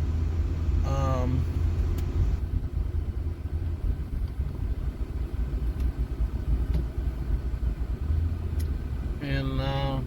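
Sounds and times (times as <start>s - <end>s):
vehicle rumbling: 0.0s - 10.0s.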